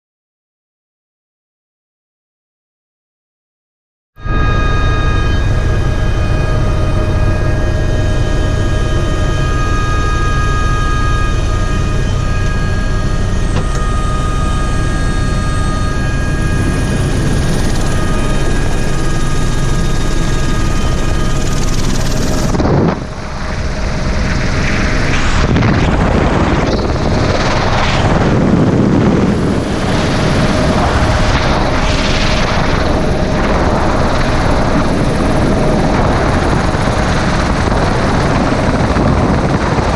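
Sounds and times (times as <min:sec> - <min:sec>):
helicopter engine and rotor drone: 0:04.2 - 0:39.9
high whining tones: 0:04.2 - 0:39.9
wind rush and rotor noise: 0:04.2 - 0:39.9.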